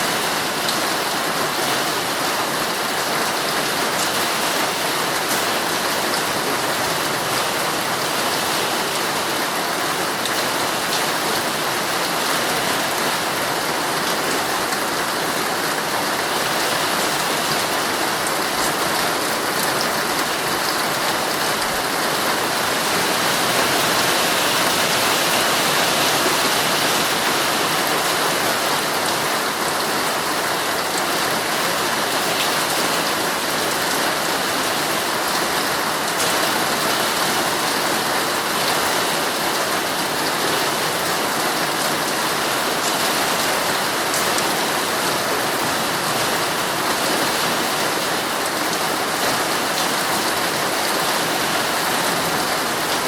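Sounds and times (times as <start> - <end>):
heavy rain on a tent: 0.0 - 53.0.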